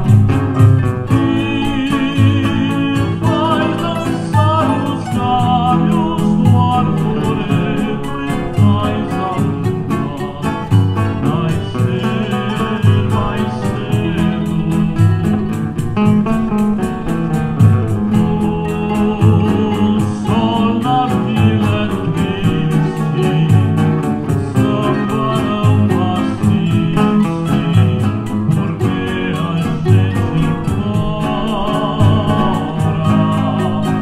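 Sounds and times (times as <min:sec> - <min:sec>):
acoustic guitars: 0:00.0 - 0:34.0
cavaquinho: 0:00.0 - 0:34.0
hand percussion ticking: 0:00.0 - 0:34.0
person singing samba song: 0:00.0 - 0:34.0.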